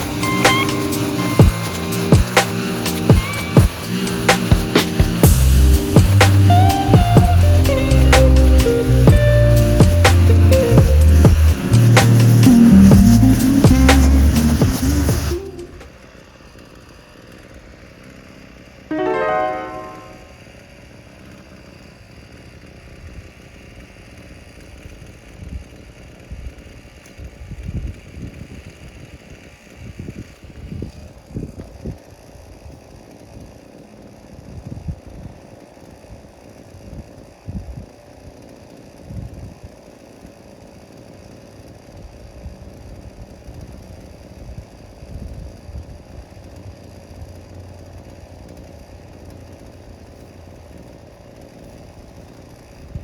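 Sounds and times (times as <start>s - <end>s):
brush cutter engine running: 0.0s - 18.9s, 20.6s - 53.0s.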